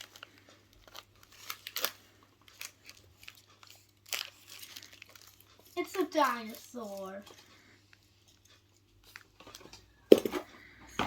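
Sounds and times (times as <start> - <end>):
plastic and card packaging crinkling: 0.0 - 10.5.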